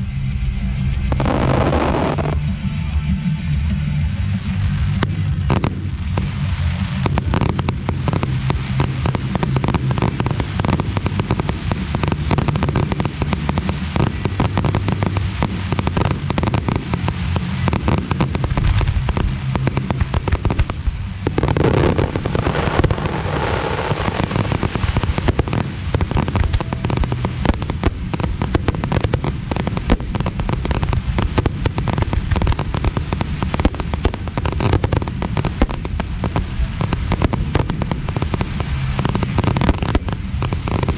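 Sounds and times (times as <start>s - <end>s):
dense fireworks crackling: 0.0s - 40.9s
fireworks bursts and booms: 0.0s - 40.9s.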